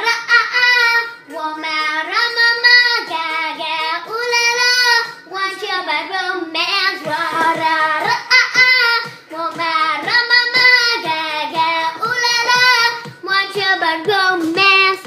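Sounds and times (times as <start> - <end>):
girl singing: 0.0 - 15.0.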